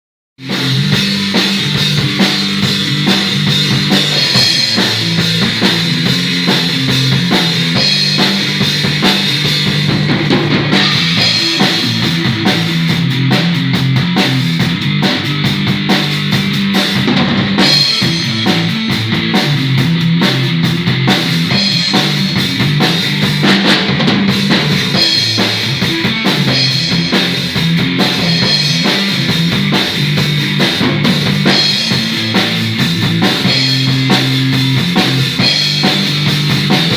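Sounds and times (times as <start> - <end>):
drum kit playing: 0.4 - 36.9
guitar playing rock: 0.4 - 36.9.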